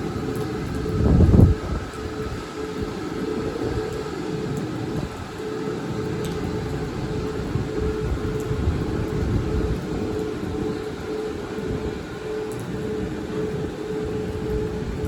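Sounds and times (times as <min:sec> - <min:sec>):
train low rumble: 0:00.0 - 0:05.4, 0:06.0 - 0:15.0.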